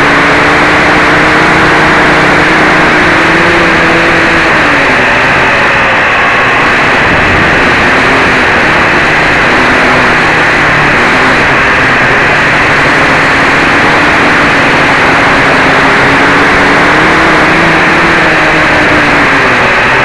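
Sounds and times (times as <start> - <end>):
quadcopter motors buzzing: 0.0 - 20.0.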